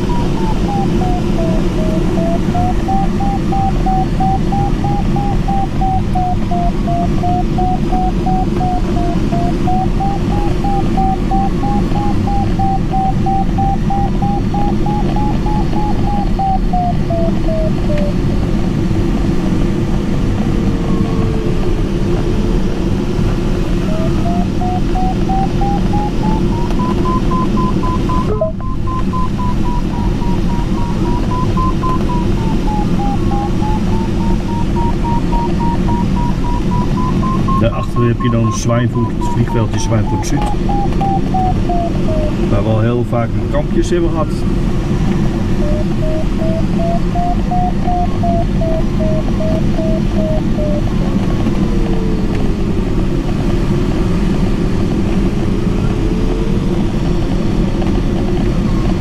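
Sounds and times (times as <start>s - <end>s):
variometer tone wandering in pitch: 0.0s - 44.2s, 44.8s - 59.0s
airflow rushing around cockpit: 0.0s - 59.0s.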